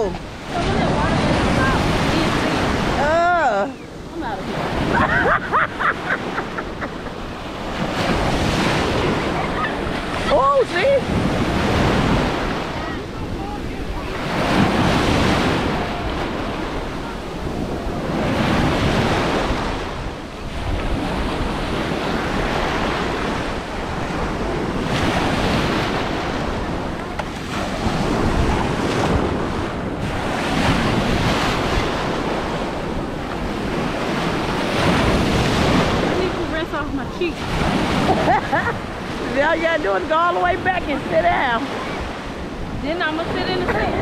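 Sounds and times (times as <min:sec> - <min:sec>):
ocean surf breaking: 0:00.0 - 0:44.0.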